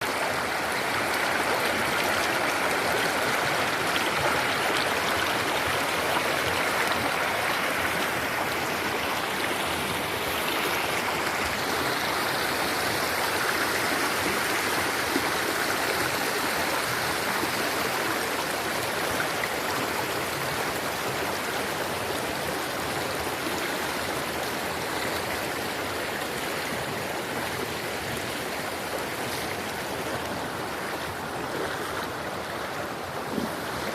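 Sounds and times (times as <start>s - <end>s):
stream of running water: 0.0s - 33.9s.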